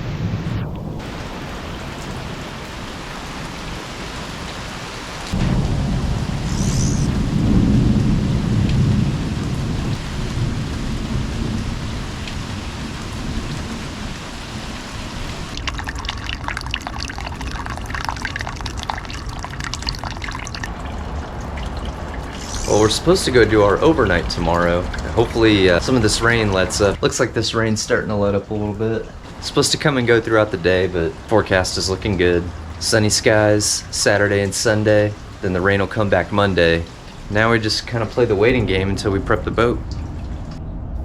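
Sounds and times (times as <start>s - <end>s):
steady rain: 0.0s - 41.0s
thunder rumbling: 0.0s - 41.0s
raindrops pattering on surface: 0.2s - 40.6s.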